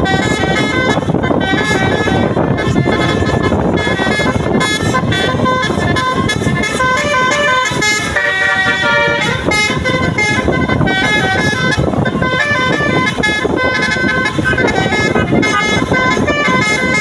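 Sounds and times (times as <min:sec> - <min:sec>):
musical air horns melody: 0:00.0 - 0:17.0
road and engine noise: 0:00.0 - 0:17.0.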